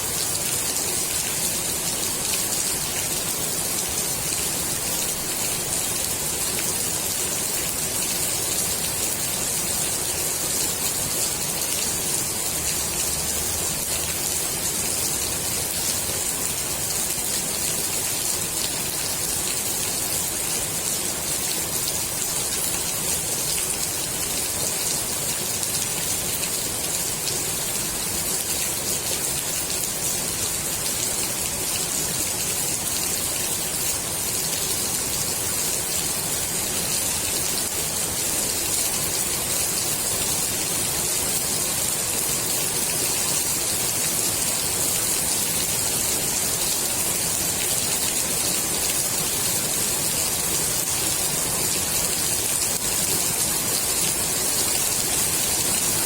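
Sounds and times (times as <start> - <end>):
rain falling on pool water: 0.0 - 56.0.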